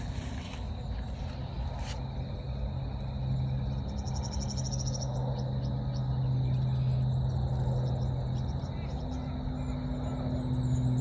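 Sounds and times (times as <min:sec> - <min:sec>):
insect trilling: 0:00.0 - 0:11.0
steady low hum: 0:00.0 - 0:11.0.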